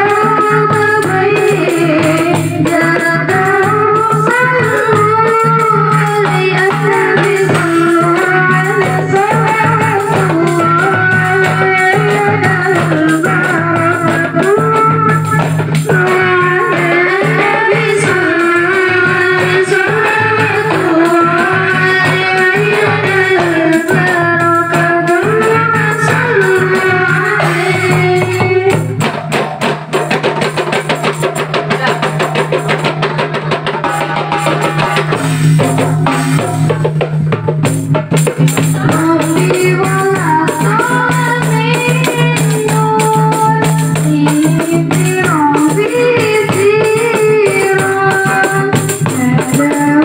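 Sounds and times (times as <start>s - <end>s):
fast hand drum strikes: 0.0s - 50.0s
steady percussion: 0.0s - 50.0s.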